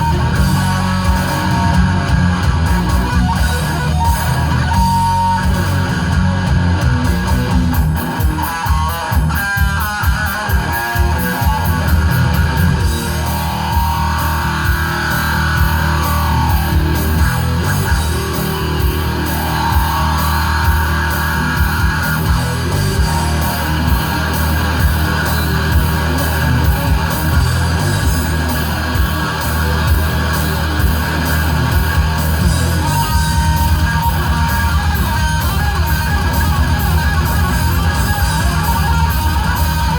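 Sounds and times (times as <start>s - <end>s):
distorted electric guitar lead: 0.0s - 39.9s
heavy metal band playing: 0.0s - 39.9s.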